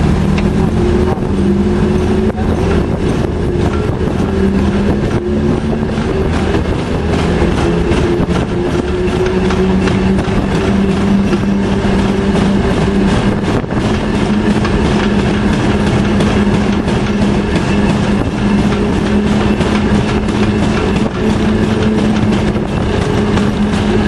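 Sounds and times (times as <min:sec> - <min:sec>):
train machinery humming: 0:00.0 - 0:24.0
wheels running on rails: 0:00.0 - 0:24.0.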